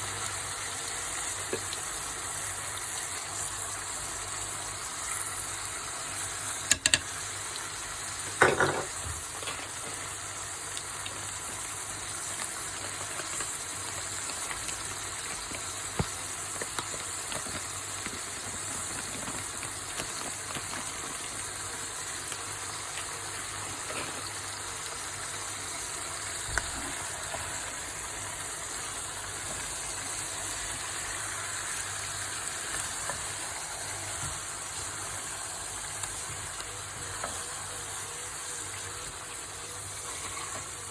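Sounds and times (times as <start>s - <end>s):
chicken sizzling in a pan: 0.0s - 40.9s.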